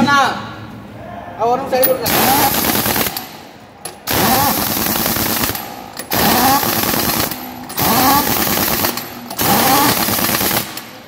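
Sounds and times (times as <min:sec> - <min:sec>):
pneumatic impact wrench rattling: 0:02.0 - 0:11.0.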